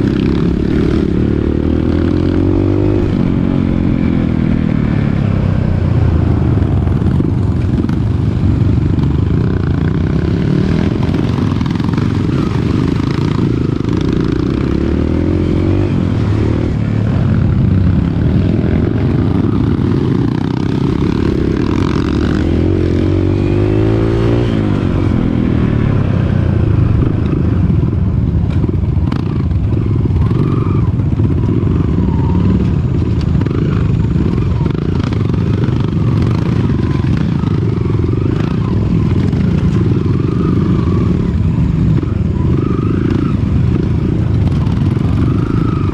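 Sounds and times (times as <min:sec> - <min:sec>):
dirt bike engine revving: 0:00.0 - 0:05.9, 0:08.8 - 0:45.9.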